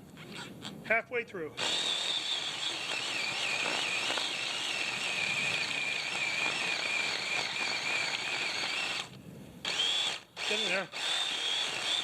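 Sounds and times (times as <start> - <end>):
electric chainsaw cutting wood: 1.6 - 12.0.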